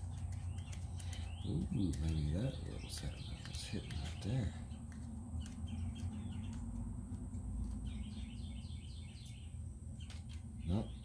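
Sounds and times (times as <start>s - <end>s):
bird chirping: 0.0s - 11.0s
steady low hum: 0.0s - 11.0s.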